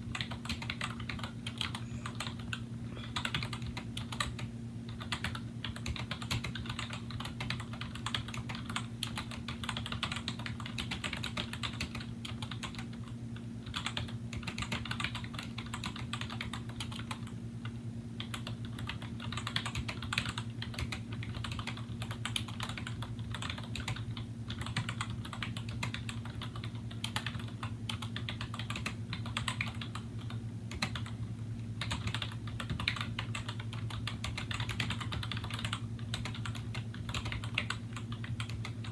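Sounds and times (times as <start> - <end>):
steady low hum: 0.0 - 38.9
fast typing on keyboard: 0.1 - 17.4, 18.2 - 31.2, 31.8 - 38.9.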